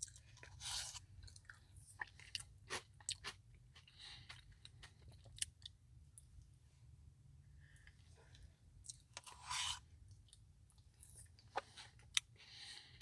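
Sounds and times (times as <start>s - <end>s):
chewing ice cream and cookie: 0.0s - 6.6s, 7.8s - 13.0s.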